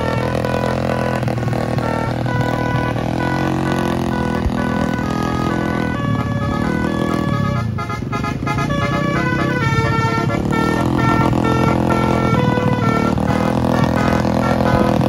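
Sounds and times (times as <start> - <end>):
musical air horn playing: 0.0 - 15.0
vehicle engines running: 0.0 - 15.0.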